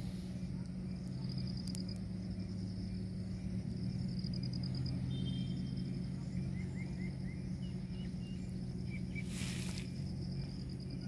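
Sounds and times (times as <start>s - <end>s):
constant low hum: 0.0s - 11.0s
crickets trilling: 0.0s - 11.0s.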